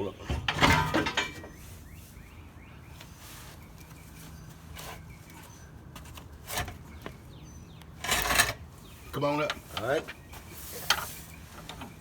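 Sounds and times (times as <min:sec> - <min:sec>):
small birds chirping: 0:01.4 - 0:12.0.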